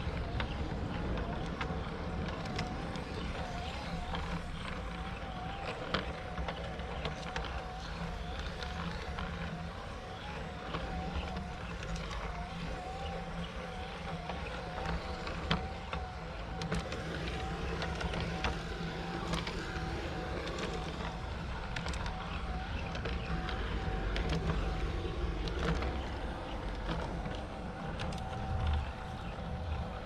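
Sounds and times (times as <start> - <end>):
model train motor hum: 0.0 - 30.0
wheels clicking on rails: 0.0 - 30.0.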